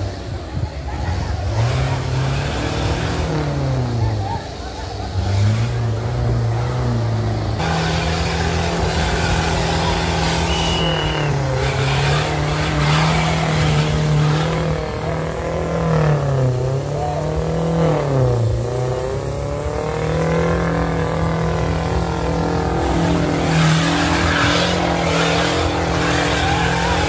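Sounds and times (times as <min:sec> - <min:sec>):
suv engine revving under load: 0:00.0 - 0:27.0.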